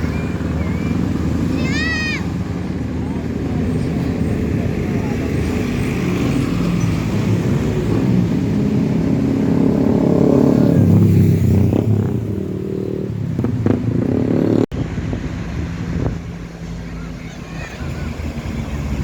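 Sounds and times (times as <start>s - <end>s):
heavy vehicle engine drone: 0.0s - 19.0s.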